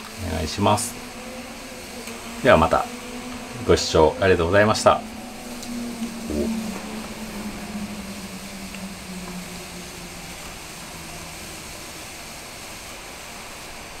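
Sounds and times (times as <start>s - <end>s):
low hum: 0.0s - 14.0s
steam humidifier hissing: 0.0s - 14.0s.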